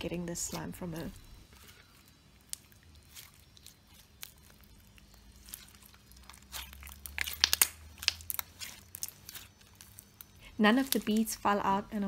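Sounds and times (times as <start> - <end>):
slime crackling and popping: 0.5 - 11.4.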